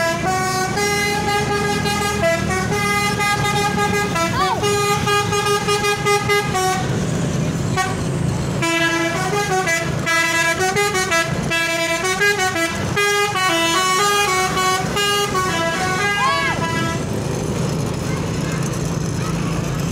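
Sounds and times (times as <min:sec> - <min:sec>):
multi-tone bus horn: 0:00.0 - 0:17.2
engine and road rumble: 0:00.0 - 0:19.9
traffic noise: 0:00.0 - 0:19.9.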